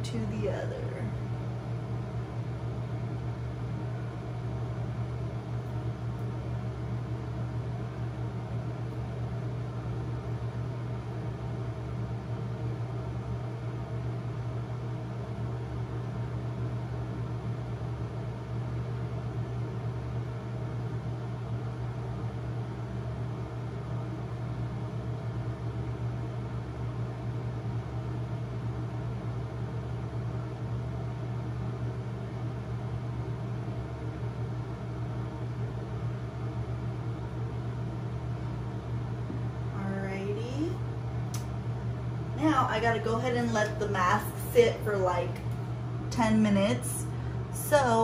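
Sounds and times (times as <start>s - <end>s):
fan humming and hissing: 0.0s - 48.0s.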